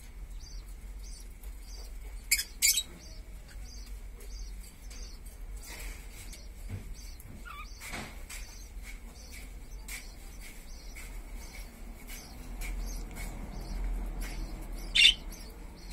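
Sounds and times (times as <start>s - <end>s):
cockatiels chirping and squeaking: 0.3s - 15.9s.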